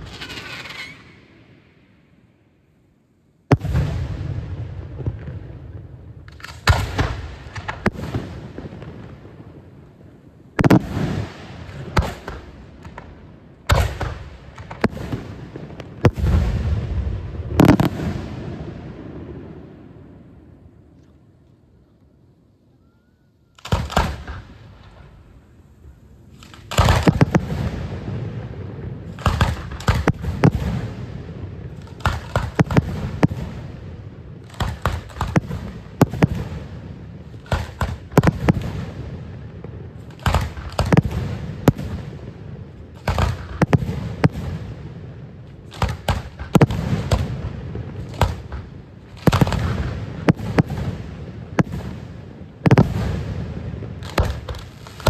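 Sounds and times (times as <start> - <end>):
fireworks crackling: 0.0 - 1.6, 3.5 - 19.3, 23.6 - 55.0
fireworks bangs: 0.0 - 2.0, 3.5 - 20.9, 23.6 - 55.0.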